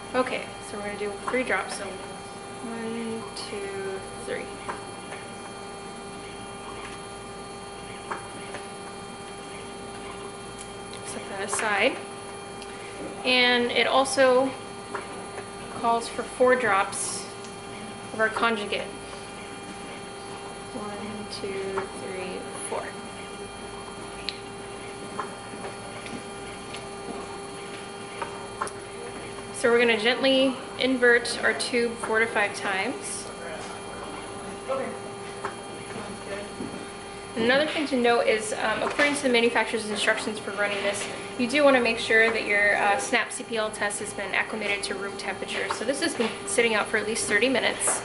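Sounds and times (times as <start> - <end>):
electrical equipment hum: 0.0 - 48.0.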